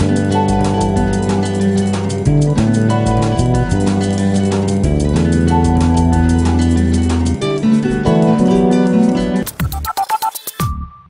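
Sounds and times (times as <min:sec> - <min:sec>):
sustained music chords: 0:00.0 - 0:09.4.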